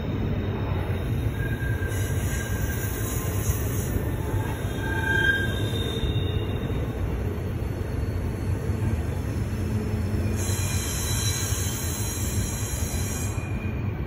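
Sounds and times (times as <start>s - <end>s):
train wheels rumbling on rail: 0.0s - 14.0s
high flange squeals: 0.1s - 9.4s, 10.0s - 14.0s.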